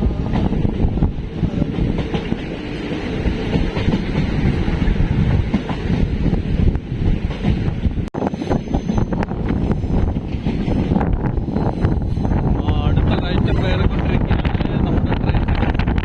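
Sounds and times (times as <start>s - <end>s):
rail clatter: 0.0s - 16.0s
train carriages rumbling: 0.0s - 16.0s.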